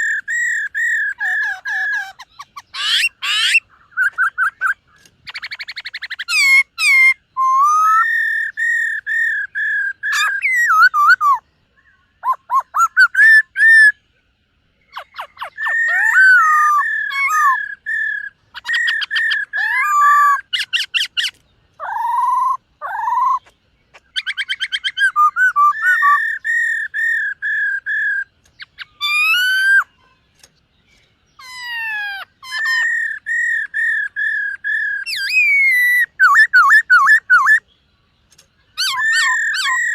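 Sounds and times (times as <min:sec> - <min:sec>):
bird singing whistled phrases: 0:00.0 - 0:14.0, 0:14.9 - 0:30.5, 0:31.4 - 0:37.7, 0:38.7 - 0:39.9.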